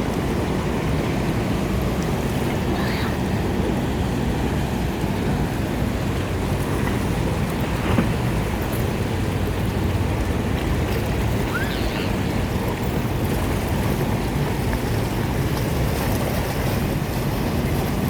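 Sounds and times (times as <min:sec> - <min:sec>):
boat motor humming: 0:00.0 - 0:18.0
water and wind noise: 0:00.0 - 0:18.0.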